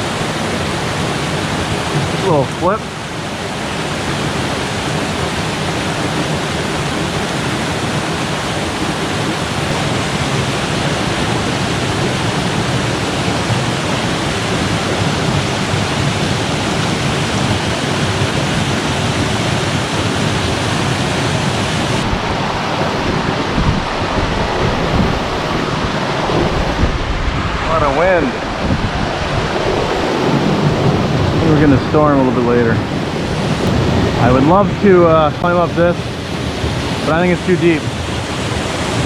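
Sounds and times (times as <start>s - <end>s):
waterfall and creek rushing: 0.0s - 39.0s.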